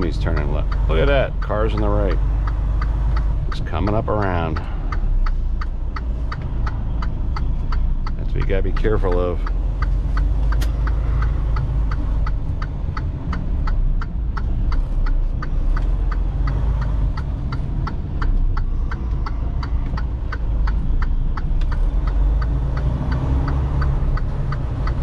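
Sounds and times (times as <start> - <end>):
diesel engine drone: 0.0 - 25.0
turn signal ticking: 0.0 - 25.0.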